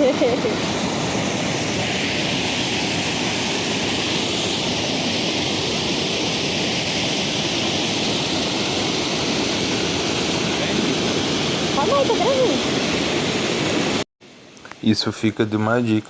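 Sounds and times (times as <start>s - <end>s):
water rushing over waterfall: 0.0s - 14.0s.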